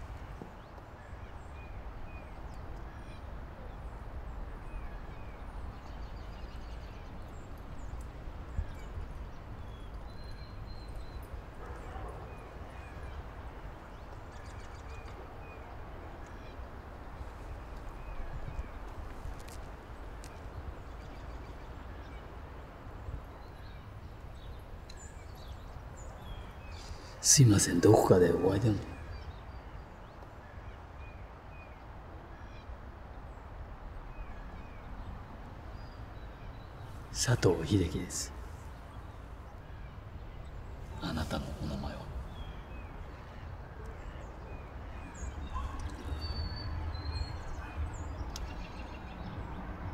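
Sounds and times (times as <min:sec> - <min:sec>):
faint bird chirps: 0:00.0 - 0:49.6.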